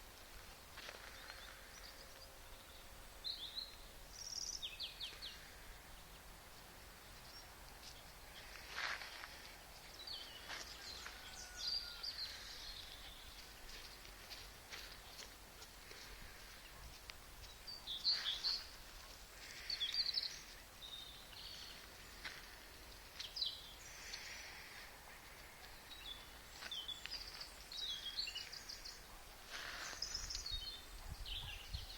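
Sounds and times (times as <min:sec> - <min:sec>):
faint outdoor hush: 0:00.0 - 0:31.9
songbirds chirping and trilling: 0:00.2 - 0:31.9.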